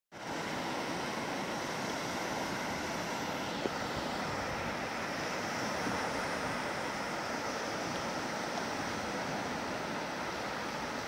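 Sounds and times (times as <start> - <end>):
small waves breaking on shore: 0.1 - 11.0.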